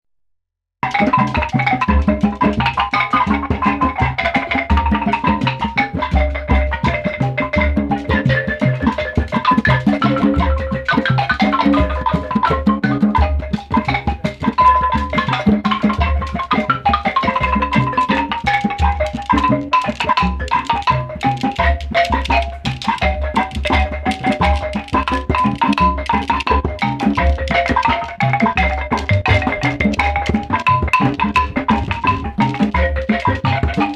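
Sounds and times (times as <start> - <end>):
bright melodic line: 0.8 - 33.9
fast busy percussion: 0.8 - 33.9.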